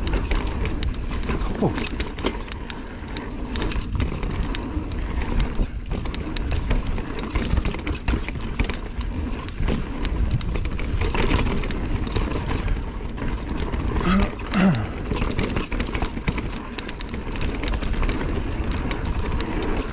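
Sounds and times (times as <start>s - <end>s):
bike rattling and knocking: 0.0s - 19.9s
tyre and wind rush: 0.0s - 19.9s.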